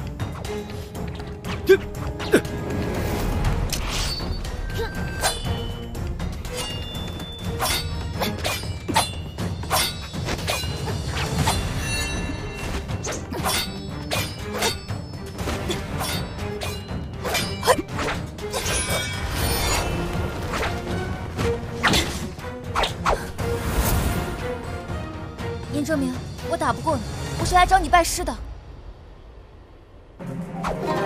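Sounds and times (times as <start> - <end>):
music: 0.0 - 31.0.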